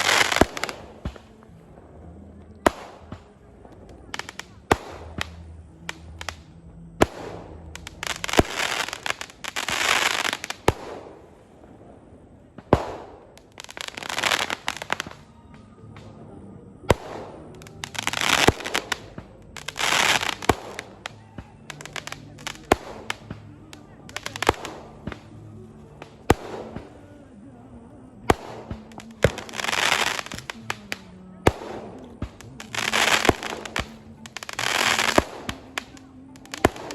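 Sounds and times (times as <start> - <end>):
firecracker bangs: 0.0 - 1.5, 2.7 - 11.9, 12.5 - 16.1, 16.9 - 25.4, 26.0 - 27.1, 28.3 - 36.9
fireworks crackling and hissing: 0.0 - 36.9.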